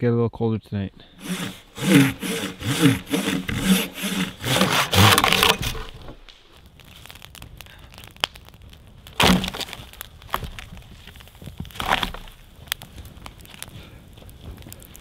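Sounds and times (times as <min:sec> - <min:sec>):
log fire crackling: 0:01.0 - 0:15.0
loud wood crack: 0:01.0 - 0:15.0
wood breaking and cracking: 0:01.1 - 0:15.0.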